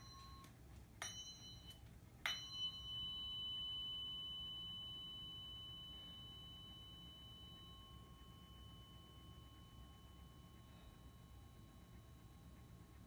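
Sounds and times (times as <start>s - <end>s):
tuning fork ringing tone: 0.0s - 13.0s
tuning fork struck: 0.0s - 13.0s.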